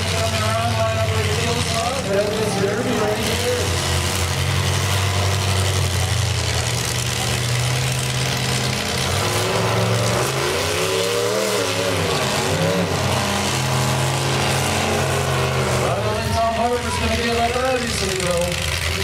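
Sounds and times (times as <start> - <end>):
car engines running hard: 0.0 - 19.0.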